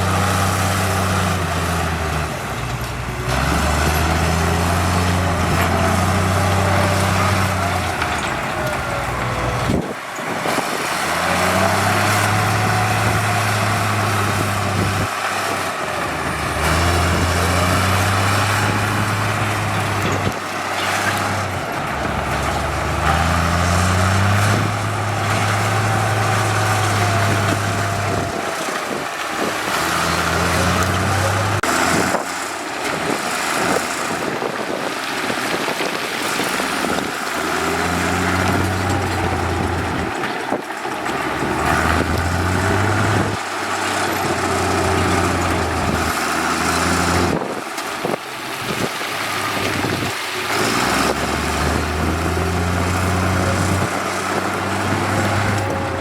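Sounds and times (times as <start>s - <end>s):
diesel engine revving under load: 0.0s - 56.0s.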